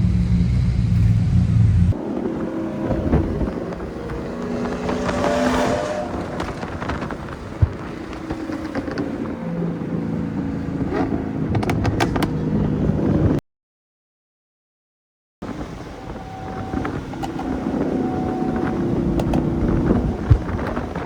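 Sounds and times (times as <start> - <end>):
car engine revving: 0.0 - 13.4, 15.7 - 21.0
wind noise: 0.0 - 13.4, 15.4 - 21.0.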